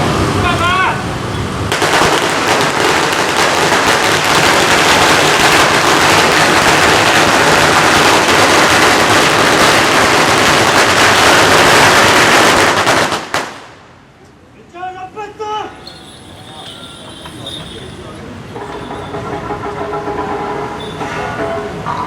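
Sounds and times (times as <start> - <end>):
firecrackers crackling: 0.0 - 14.0, 15.8 - 22.0.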